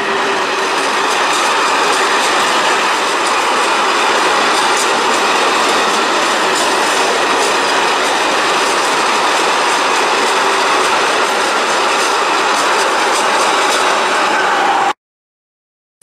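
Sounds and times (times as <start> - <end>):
wheels clicking over rail joints: 0.0 - 14.4
steel wheels on rail: 0.0 - 15.0.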